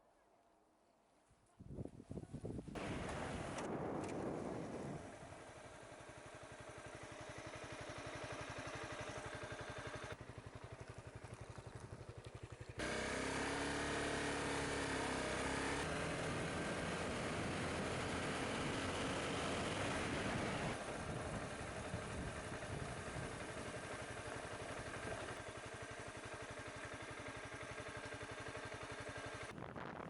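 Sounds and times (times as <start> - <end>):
motorcycle engine idling: 2.8 - 29.6
motorcycle running under way: 2.8 - 30.0.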